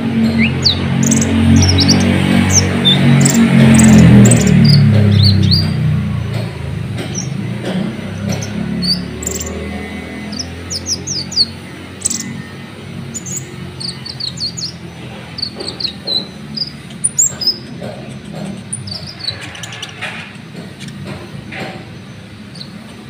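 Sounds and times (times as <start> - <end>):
bird song chirps: 0.0 - 23.0.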